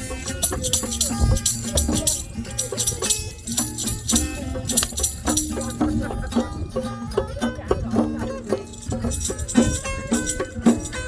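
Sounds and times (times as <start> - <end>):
hand drum rhythm: 0.0 - 11.0
jingling tambourine: 0.0 - 11.0.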